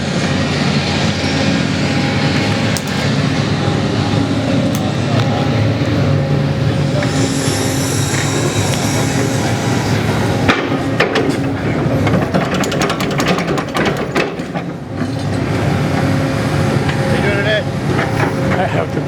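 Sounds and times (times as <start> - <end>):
machinery engine running: 0.0 - 19.0.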